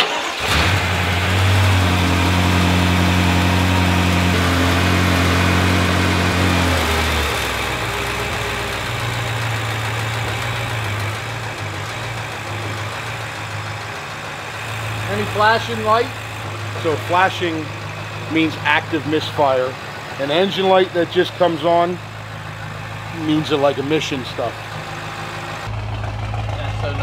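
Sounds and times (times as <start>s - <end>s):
car engine starting and idling: 0.0s - 27.0s.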